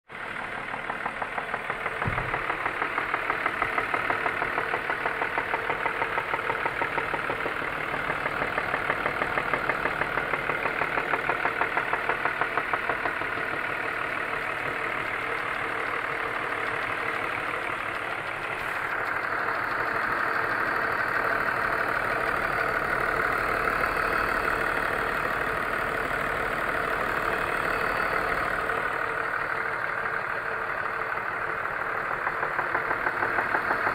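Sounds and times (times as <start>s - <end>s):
car engine idling with knock: 0.1s - 33.9s.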